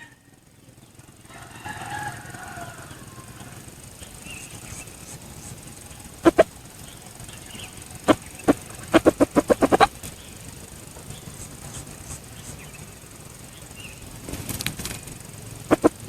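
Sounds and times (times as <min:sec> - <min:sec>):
rustle: 0:00.0 - 0:16.0
rooster wings beating: 0:01.3 - 0:13.1, 0:13.7 - 0:16.0.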